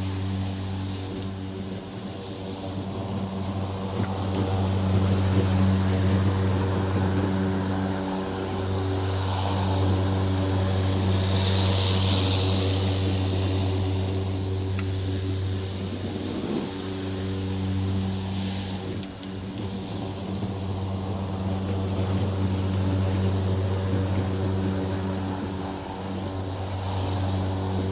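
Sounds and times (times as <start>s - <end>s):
lawn mower engine running: 0.0s - 27.9s.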